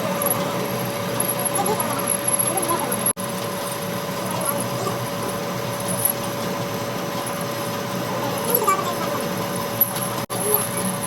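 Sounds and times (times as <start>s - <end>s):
workshop machine whine: 0.0s - 11.0s.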